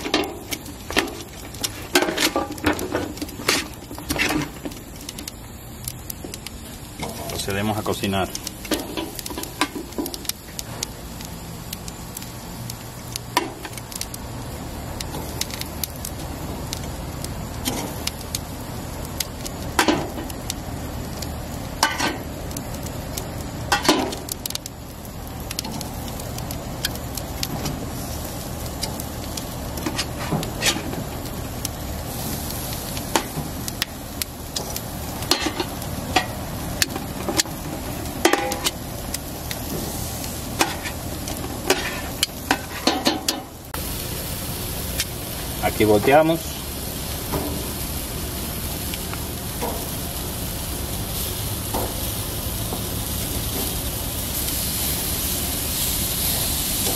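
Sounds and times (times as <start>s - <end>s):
vegetables sizzling on grill: 0.0s - 56.9s.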